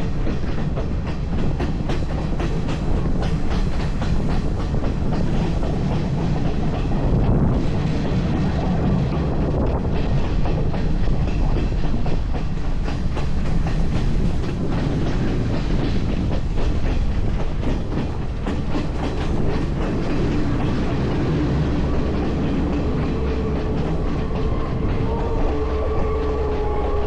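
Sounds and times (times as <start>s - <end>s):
train rumbling on track: 0.0s - 27.0s
wheels clicking over rails: 0.0s - 27.0s.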